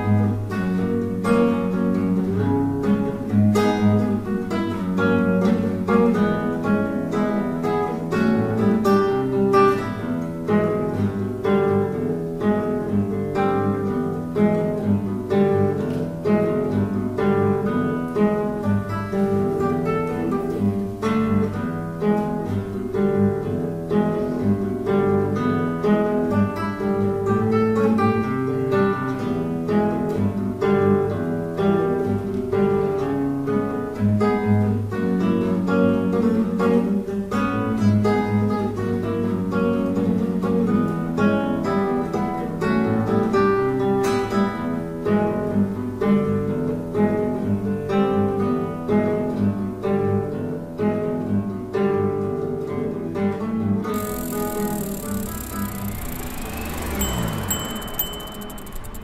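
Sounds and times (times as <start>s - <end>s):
acoustic guitar instrumental: 0.0s - 59.0s.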